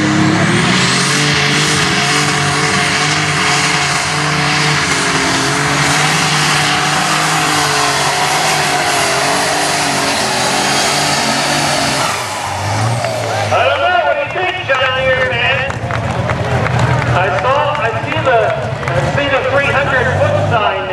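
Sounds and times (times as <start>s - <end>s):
tractor engine running under load: 0.0s - 20.8s.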